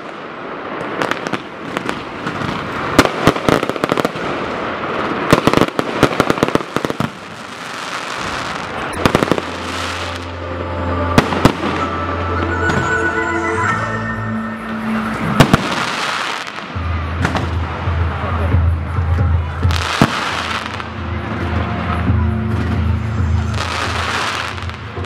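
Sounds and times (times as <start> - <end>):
fireworks crackling: 0.0 - 12.9, 14.7 - 18.6, 19.4 - 25.0
fireworks banging: 0.0 - 13.0, 14.7 - 25.0.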